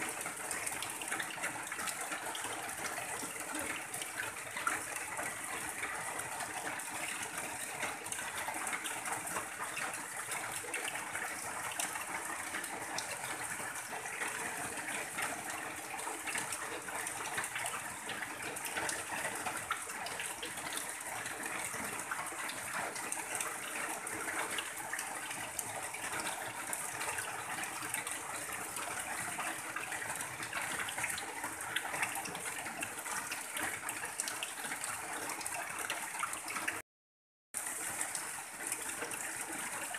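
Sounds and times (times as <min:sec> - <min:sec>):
rain on a tin roof: 0:00.0 - 0:36.8, 0:37.6 - 0:39.9
runoff water gushing: 0:00.0 - 0:36.8, 0:37.6 - 0:39.9.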